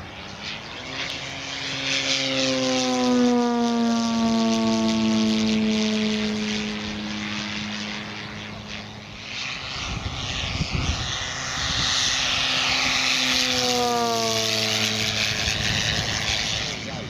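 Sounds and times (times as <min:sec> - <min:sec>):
model plane propeller rushing: 0:00.0 - 0:17.0.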